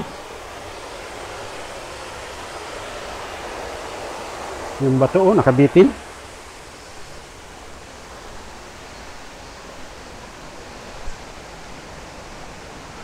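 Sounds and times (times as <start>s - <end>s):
steady outdoor rushing noise: 0.0s - 13.0s.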